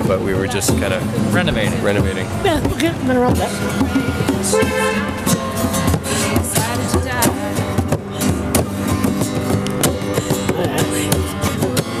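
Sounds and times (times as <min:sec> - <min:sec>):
music playing: 0:00.0 - 0:12.0.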